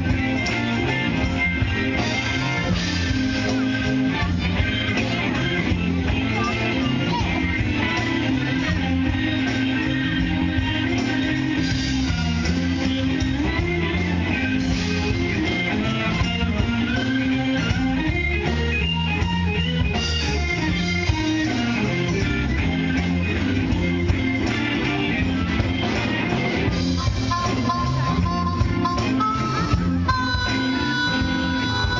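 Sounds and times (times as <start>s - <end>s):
drum kit with cymbal ticking: 0.0s - 31.9s
electric guitar: 0.0s - 31.9s
walking bass line: 0.0s - 31.9s.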